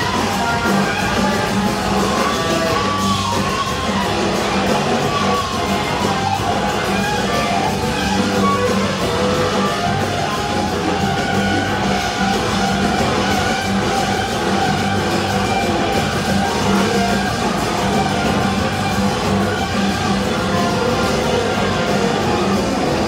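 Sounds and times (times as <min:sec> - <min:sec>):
electric guitar lead line: 0:00.0 - 0:23.0
live rock band: 0:00.0 - 0:23.0.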